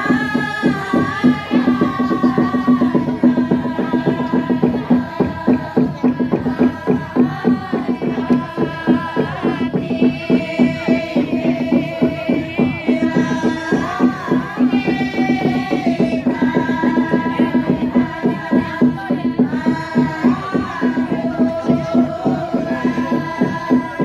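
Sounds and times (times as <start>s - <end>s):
quick percussive beat: 0.0s - 24.0s
women singing in unison: 0.0s - 24.0s.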